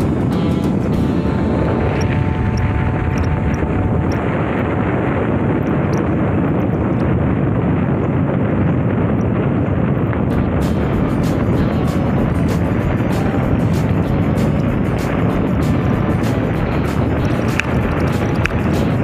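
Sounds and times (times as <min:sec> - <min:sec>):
vehicle running on road: 0:00.0 - 0:19.0
wind buffeting microphone: 0:00.0 - 0:19.0.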